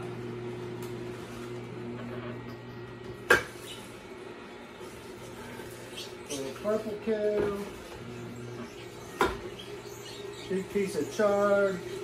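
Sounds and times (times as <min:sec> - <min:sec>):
juicer humming: 0:00.0 - 0:12.0.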